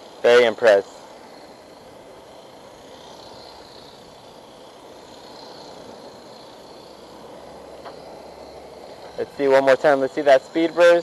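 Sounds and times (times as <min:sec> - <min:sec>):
outdoor background noise: 0:00.0 - 0:11.0
small electric motor whine: 0:00.0 - 0:11.0.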